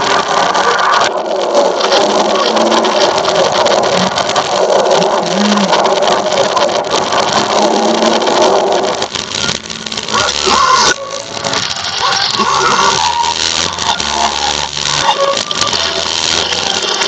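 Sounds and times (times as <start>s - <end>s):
reversed cartoon sound effects: 0.0s - 17.0s.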